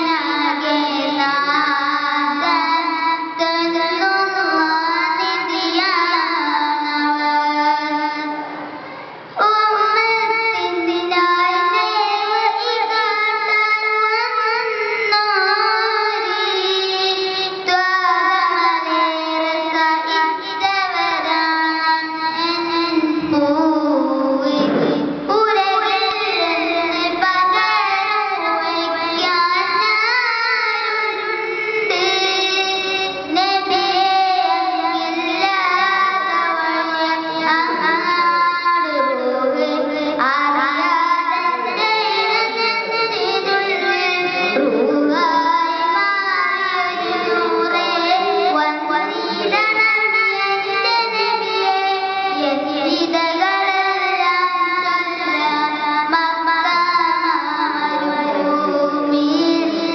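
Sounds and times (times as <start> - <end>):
boy singing into a microphone: 0.0 - 59.9.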